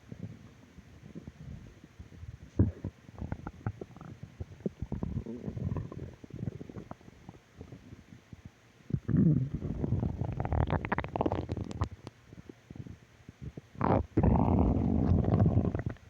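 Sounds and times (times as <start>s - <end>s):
stomach growling and gurgling: 0.0s - 16.0s.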